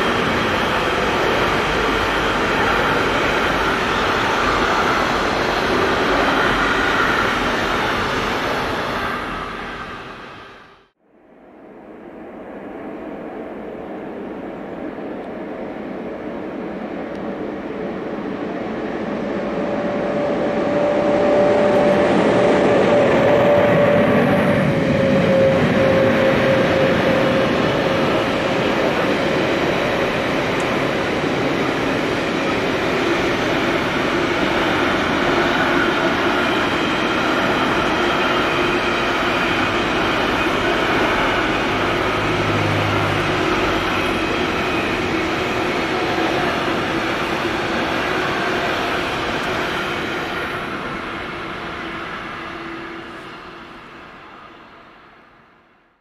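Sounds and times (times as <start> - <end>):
electric locomotive whine: 0.0 - 56.0.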